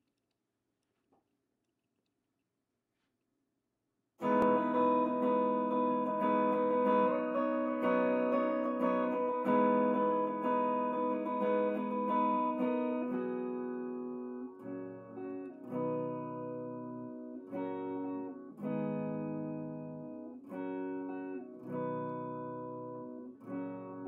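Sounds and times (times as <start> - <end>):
electric guitar played with pick: 4.2 - 24.0.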